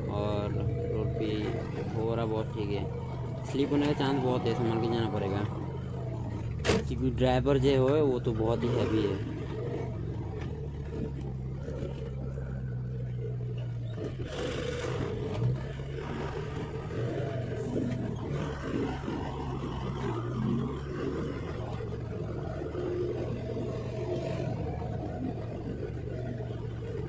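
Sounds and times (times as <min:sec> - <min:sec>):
truck diesel engine under load: 0:00.0 - 0:27.0.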